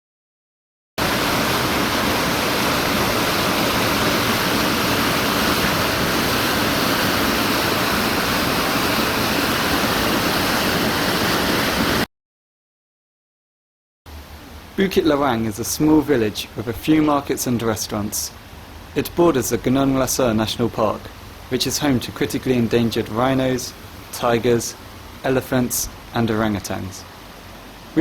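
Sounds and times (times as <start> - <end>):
rushing water: 1.0 - 12.1, 14.1 - 28.0.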